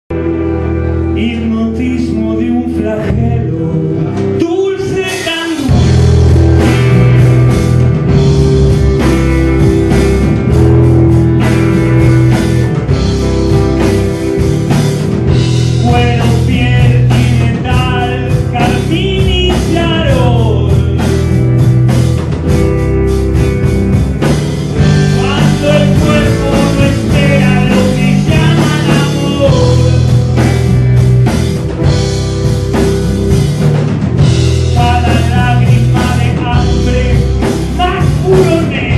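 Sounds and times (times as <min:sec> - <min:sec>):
rock band playing live: 0:00.1 - 0:38.9.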